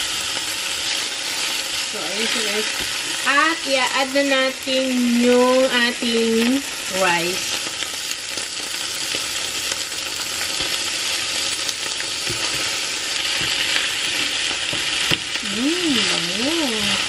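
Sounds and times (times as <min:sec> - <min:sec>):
rice sizzling in frying pan: 0:00.0 - 0:17.0.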